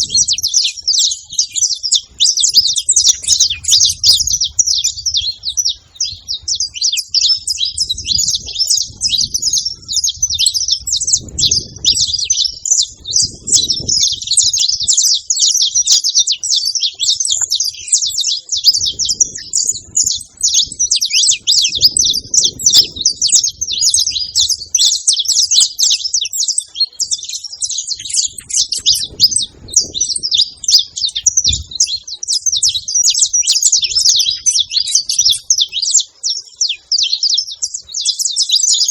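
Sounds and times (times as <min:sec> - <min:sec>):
finch singing high chirps and trills: 0:00.0 - 0:38.9.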